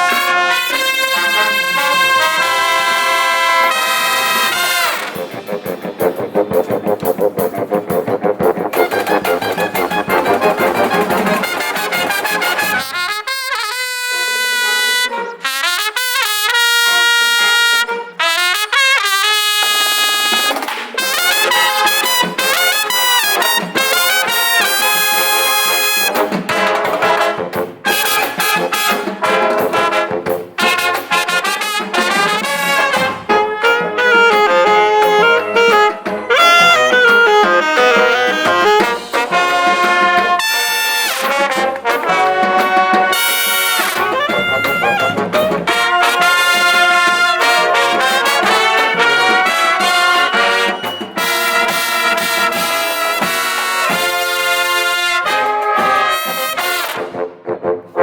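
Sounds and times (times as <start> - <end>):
marching band brass playing: 0.0 - 58.0.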